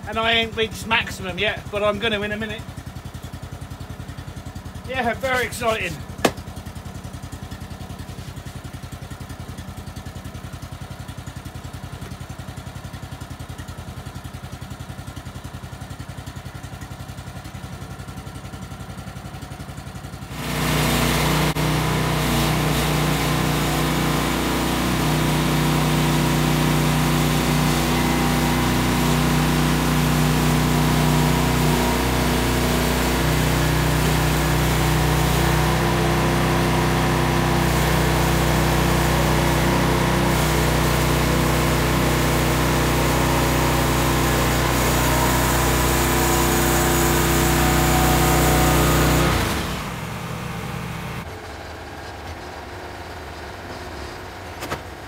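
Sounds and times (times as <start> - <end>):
petrol engine idling and revving: 0.0 - 55.0.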